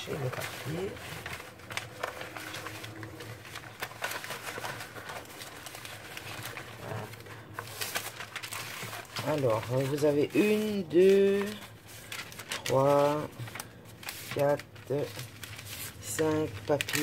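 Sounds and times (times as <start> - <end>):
paper rustling and crackling: 0.0 - 17.0.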